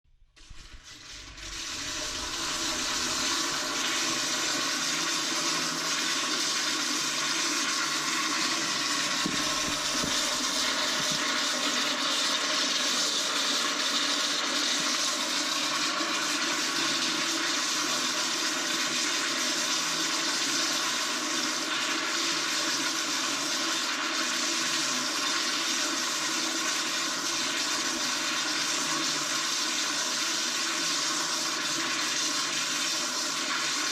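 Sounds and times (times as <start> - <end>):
toilet flushing: 0.4 - 33.9.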